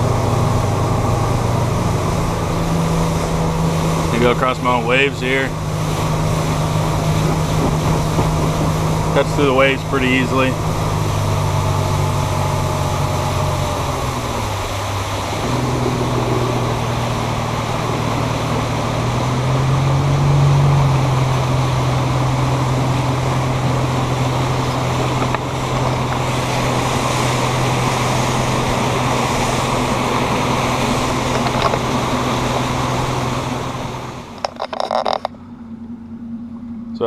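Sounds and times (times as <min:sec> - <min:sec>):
outboard motor running: 0:00.0 - 0:37.0
water rushing over hull: 0:00.0 - 0:37.0
wind: 0:00.0 - 0:37.0.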